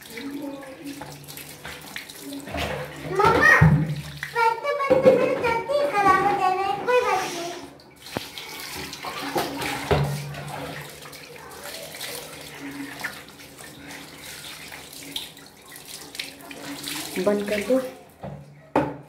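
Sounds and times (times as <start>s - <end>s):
water running and splashing: 0.0s - 18.5s.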